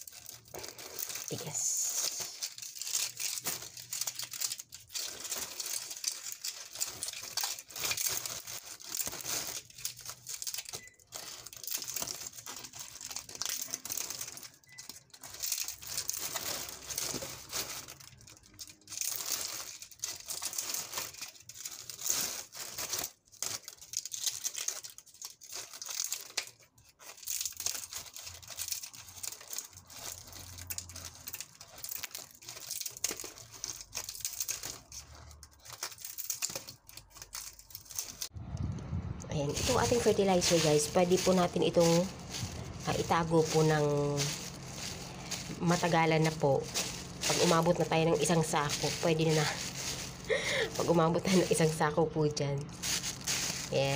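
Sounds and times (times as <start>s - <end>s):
plastic bag crinkling: 0.0s - 53.9s.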